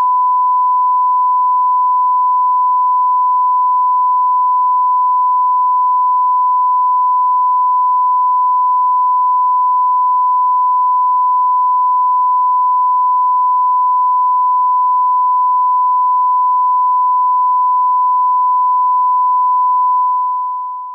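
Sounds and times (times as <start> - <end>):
sine-wave test tone: 0.0 - 20.9.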